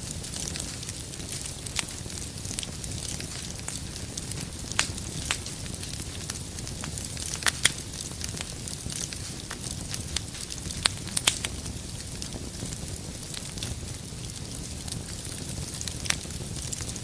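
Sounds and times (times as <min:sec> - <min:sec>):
fire rumbling and hissing: 0:00.0 - 0:17.0
logs crackling and popping: 0:00.0 - 0:17.0.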